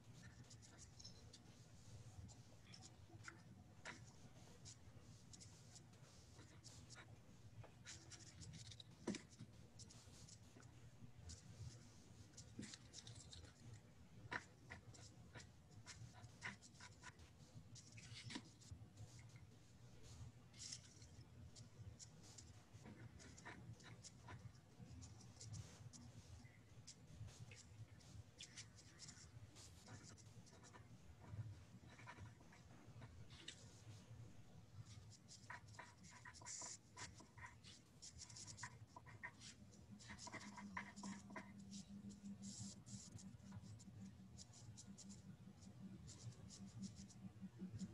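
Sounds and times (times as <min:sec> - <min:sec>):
faint clicks and scratches: 0:00.0 - 0:47.9
writing on paper: 0:00.0 - 0:47.9.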